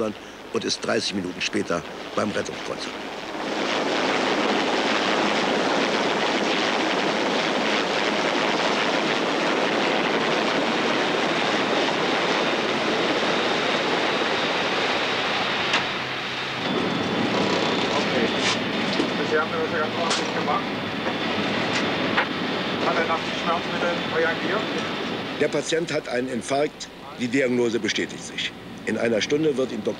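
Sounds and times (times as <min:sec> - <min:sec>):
helicopter hovering overhead: 0:00.0 - 0:29.9.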